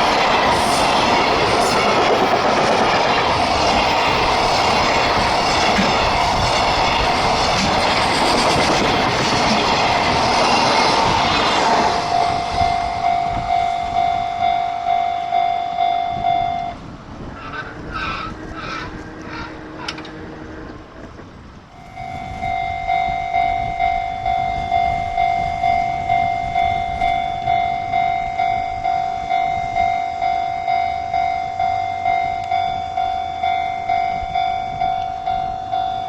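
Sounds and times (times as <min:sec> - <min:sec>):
crossing warning bell ringing: 0:00.0 - 0:20.4, 0:21.7 - 0:36.0
freight train passing: 0:00.0 - 0:36.0.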